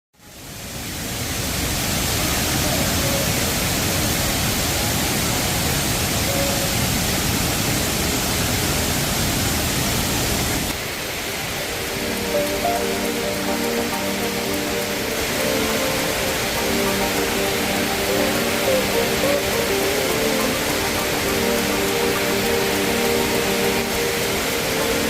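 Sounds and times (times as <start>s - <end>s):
waterfall rushing: 0.2s - 25.0s.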